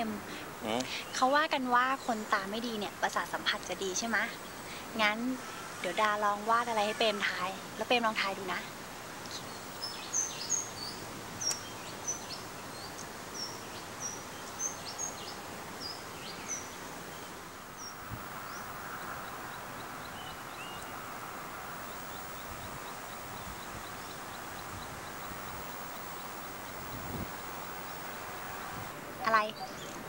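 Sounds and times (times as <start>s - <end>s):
background hiss: 0.0s - 30.0s
birds chirping: 0.0s - 30.0s.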